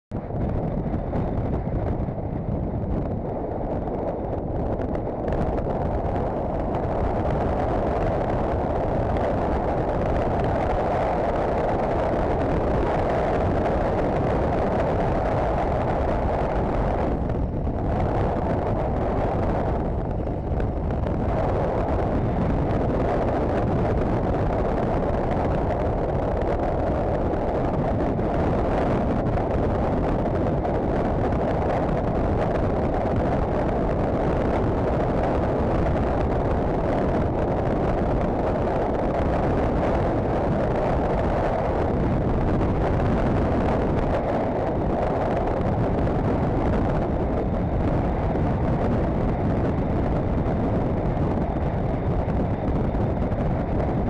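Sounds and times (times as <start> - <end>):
wind on microphone: 0.1 - 54.0.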